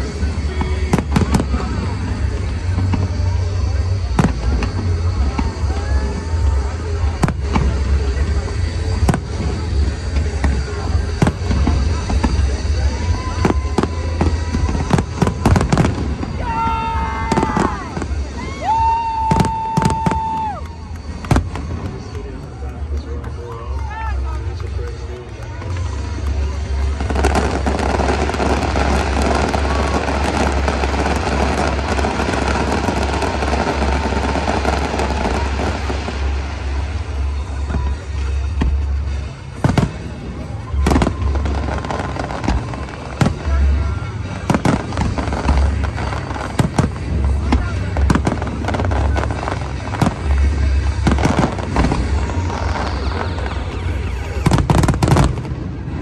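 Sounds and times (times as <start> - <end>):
fireworks booming and cracking: 0.0 - 56.0
steady low rumble: 0.0 - 56.0.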